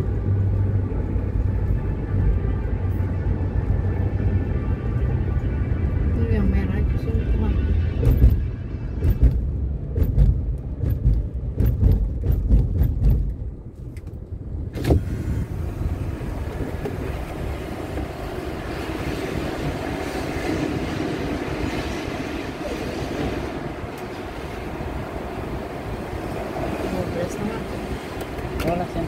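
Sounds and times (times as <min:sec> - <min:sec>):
road rumble inside car: 0:00.0 - 0:29.0.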